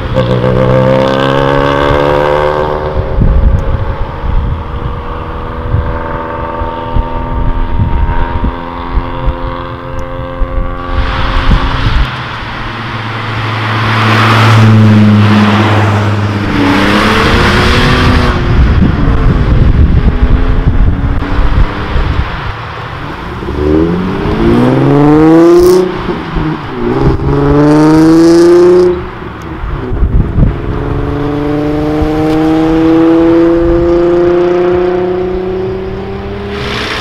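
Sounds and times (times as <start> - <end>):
car revving with low exhaust note: 0.0 - 37.0
cars driving past: 0.0 - 37.0.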